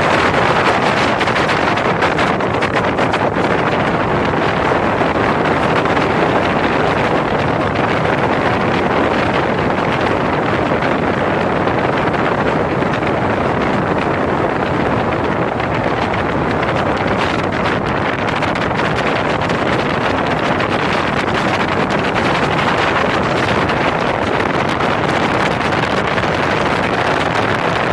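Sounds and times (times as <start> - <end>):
speedboat engine: 0.0 - 27.9
water rushing: 0.0 - 27.9
wind buffeting microphone: 0.0 - 27.9.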